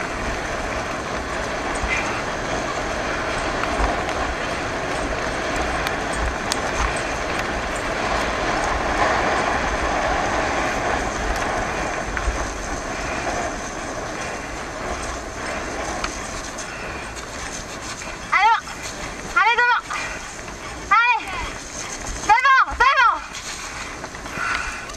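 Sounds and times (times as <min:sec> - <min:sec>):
bicycle tyres on gravel: 0:00.0 - 0:24.9
wind buffeting microphone: 0:00.0 - 0:24.9.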